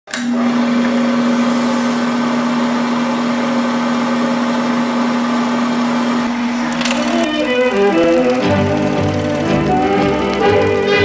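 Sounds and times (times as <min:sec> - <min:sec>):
film projector whirring: 0:00.1 - 0:11.0.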